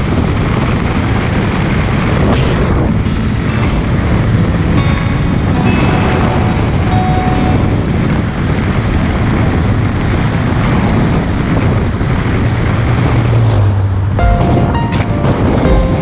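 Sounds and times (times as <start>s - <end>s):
moving vehicle rumble: 0.0s - 14.2s
low engine hum: 0.0s - 14.5s
wind buffeting microphone: 0.0s - 16.0s.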